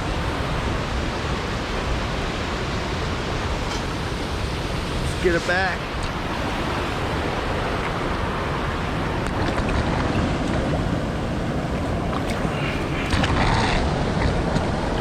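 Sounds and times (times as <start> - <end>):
creek water rushing: 0.0 - 15.0
wind buffeting microphone: 0.0 - 15.0.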